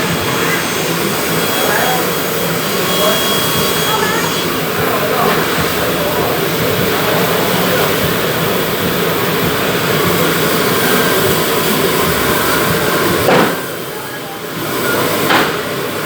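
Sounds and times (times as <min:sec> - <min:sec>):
woodworking machine whirring: 0:00.0 - 0:16.0.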